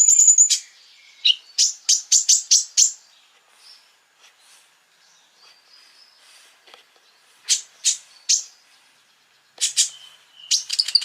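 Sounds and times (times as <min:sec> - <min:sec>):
songbird chirps: 0:00.0 - 0:11.0.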